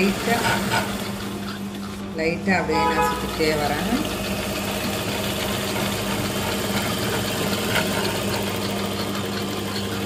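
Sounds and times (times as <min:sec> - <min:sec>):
sewing machine humming: 0:00.0 - 0:10.0.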